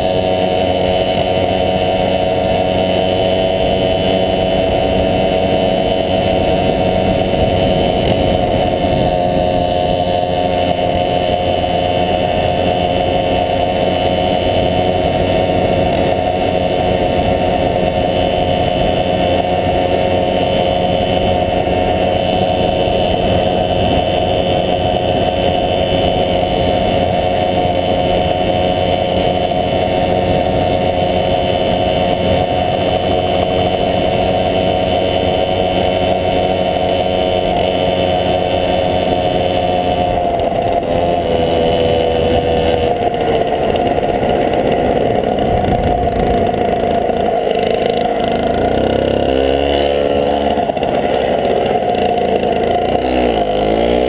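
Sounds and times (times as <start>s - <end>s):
moped engine running: 0.0s - 54.0s.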